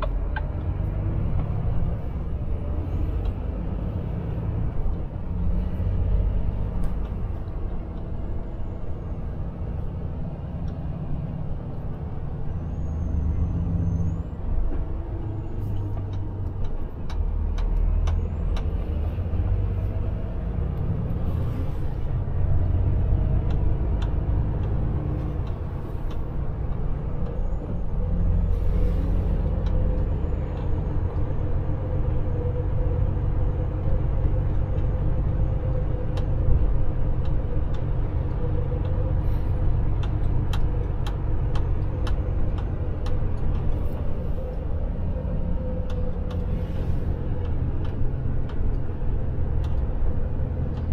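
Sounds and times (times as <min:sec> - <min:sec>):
truck engine and road rumble: 0:00.0 - 0:50.9.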